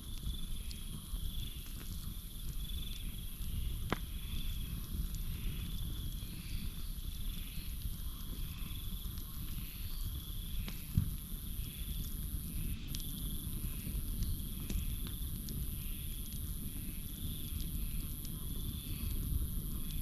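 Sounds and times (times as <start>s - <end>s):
campfire crackling: 0.0s - 20.0s
crickets trilling: 0.0s - 20.0s.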